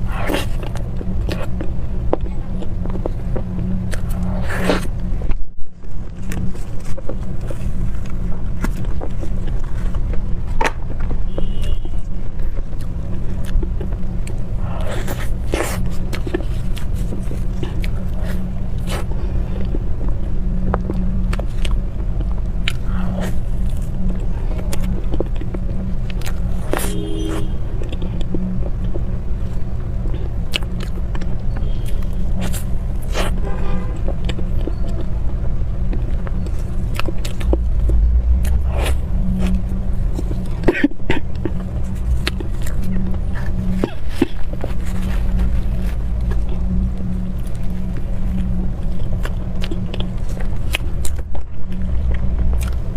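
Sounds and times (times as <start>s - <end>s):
low rumble: 0.0s - 52.9s
soft chewing: 0.0s - 52.9s.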